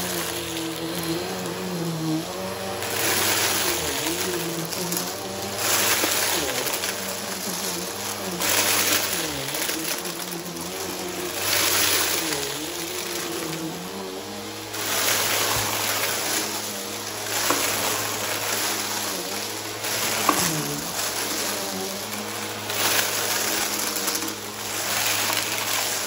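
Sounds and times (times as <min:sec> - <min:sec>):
debris crackling in vacuum intake: 0:00.0 - 0:26.0
vacuum cleaner motor hum: 0:00.0 - 0:26.0.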